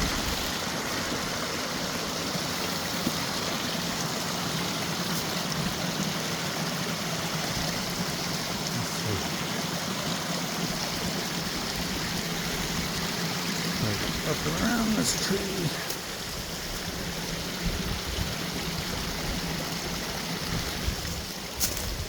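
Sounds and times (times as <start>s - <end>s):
creek flowing over rocks: 0.0s - 22.0s.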